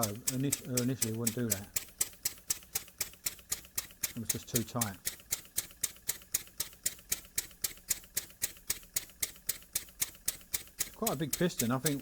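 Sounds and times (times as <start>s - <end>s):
model steam engine exhaust puffs: 0.0s - 12.0s.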